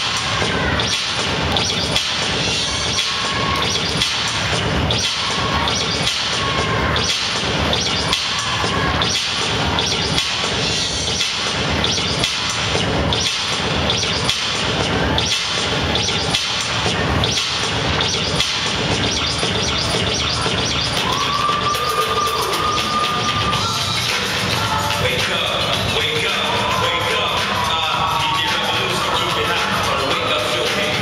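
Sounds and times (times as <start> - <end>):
dance music with heavy beat: 0.0 - 31.0.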